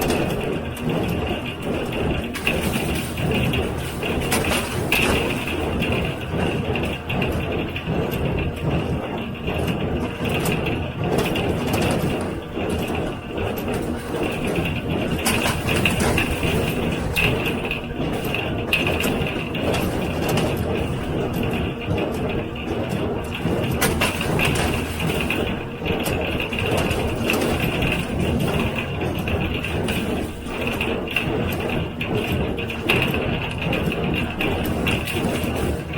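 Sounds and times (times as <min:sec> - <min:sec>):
baler mechanical clatter: 0:00.0 - 0:35.9.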